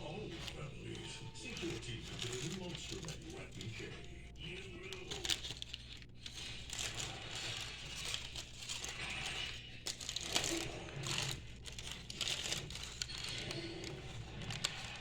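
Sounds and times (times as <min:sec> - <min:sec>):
paper crinkling and rustling: 0:00.0 - 0:15.0
paper tearing: 0:00.0 - 0:15.0.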